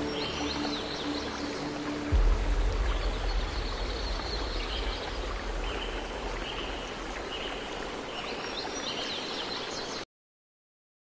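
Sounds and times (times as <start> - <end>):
birds chirping: 0.0 - 10.0
running water rushing: 0.0 - 10.0.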